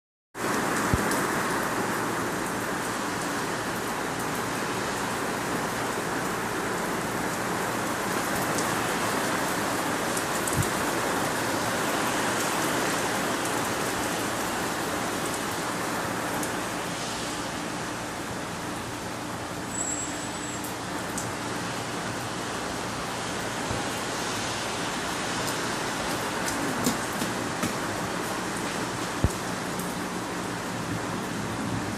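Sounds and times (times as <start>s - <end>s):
heavy rain on hard surfaces: 0.4s - 31.9s.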